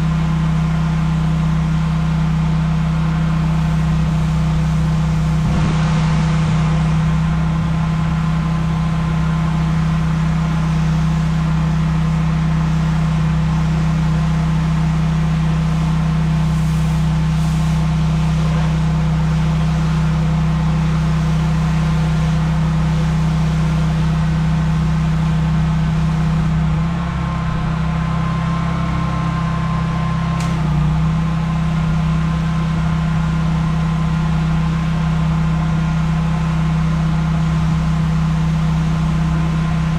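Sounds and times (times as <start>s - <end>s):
pressure washer engine hum: 0.0s - 39.9s.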